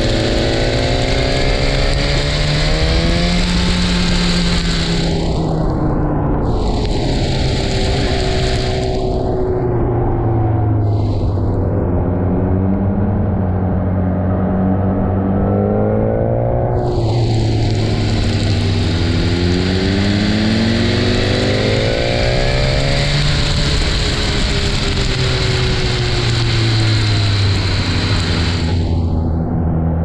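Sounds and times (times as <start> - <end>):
motorcycle engine: 0.0 - 30.0
wind and wet road noise: 0.0 - 30.0.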